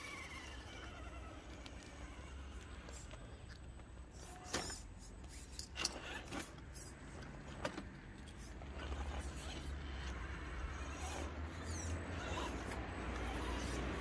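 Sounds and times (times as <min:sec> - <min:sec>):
toy truck motor whirring: 0:00.0 - 0:14.0
tyres and chassis clicking: 0:00.0 - 0:14.0.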